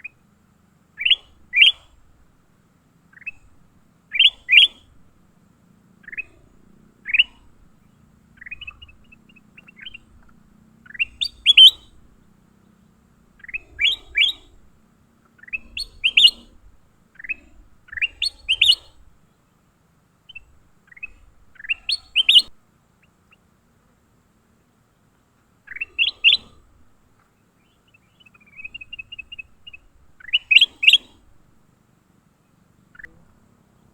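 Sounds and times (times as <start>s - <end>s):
songbird chirping: 0.0s - 33.9s.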